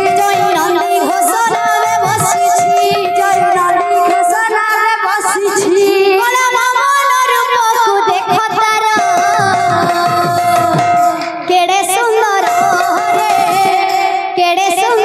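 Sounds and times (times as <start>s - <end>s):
hand drums: 0.0s - 6.5s, 7.9s - 15.0s
woman singing devotional song: 0.0s - 15.0s.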